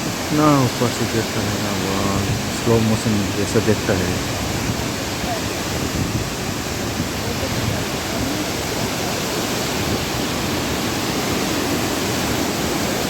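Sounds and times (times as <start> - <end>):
large waterfall rushing: 0.0 - 13.0.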